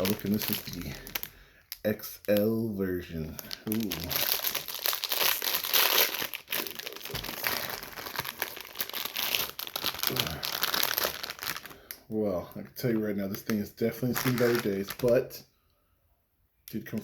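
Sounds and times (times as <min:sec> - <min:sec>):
plastic wrapper crinkling: 0:00.0 - 0:12.0, 0:12.8 - 0:15.4.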